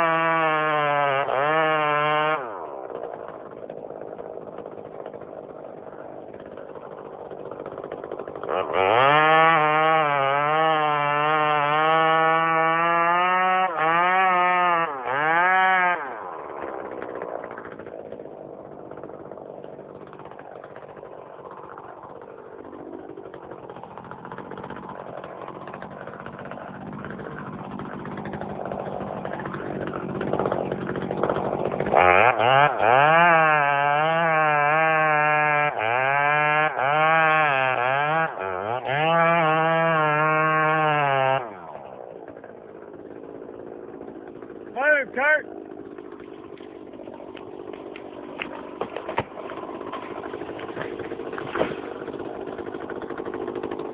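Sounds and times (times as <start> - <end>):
chainsaw running at high revs: 0.0 - 53.9.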